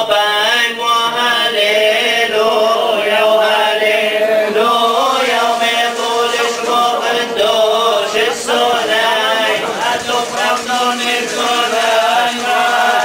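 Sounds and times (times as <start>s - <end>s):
men chanting a hymn: 0.0s - 13.0s.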